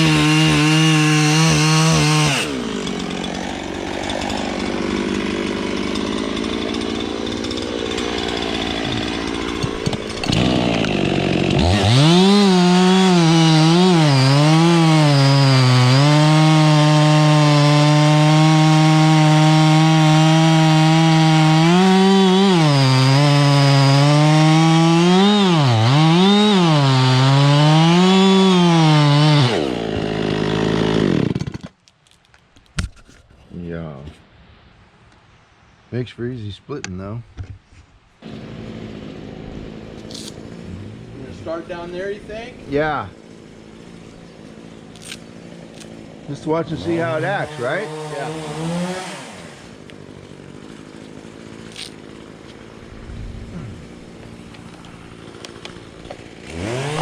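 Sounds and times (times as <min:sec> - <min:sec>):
chainsaw cutting wood: 0:00.0 - 0:31.9, 0:38.2 - 0:57.0.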